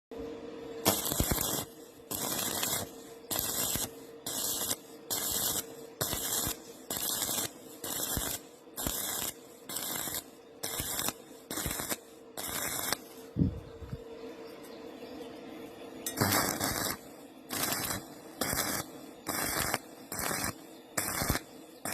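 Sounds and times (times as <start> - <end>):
steady hum: 0.1 - 21.9
welding arc hissing and crackling: 0.8 - 13.2, 16.1 - 21.9.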